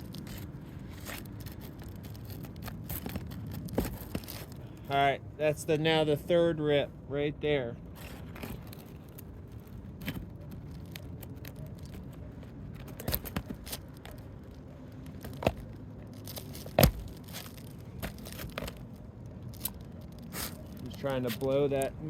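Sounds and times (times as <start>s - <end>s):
shingles scraping and crackling: 0.0s - 4.8s, 8.0s - 22.0s.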